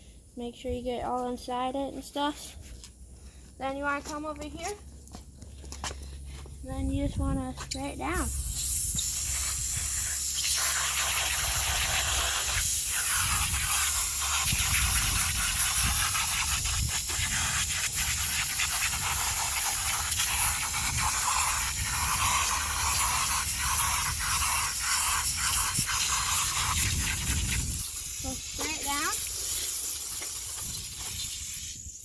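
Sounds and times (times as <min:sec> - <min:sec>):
garden hose spraying water: 0:06.2 - 0:32.0.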